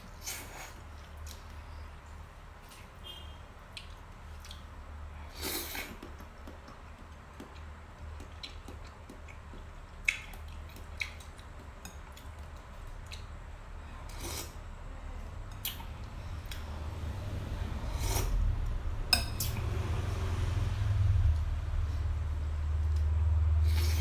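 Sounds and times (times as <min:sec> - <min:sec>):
steady low hum: 0:03.5 - 0:24.0.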